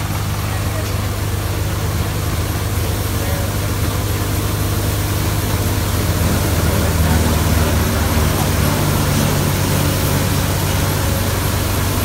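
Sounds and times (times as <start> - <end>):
rushing noise of threshing: 0.0 - 12.0
thresher machine humming: 0.0 - 12.0.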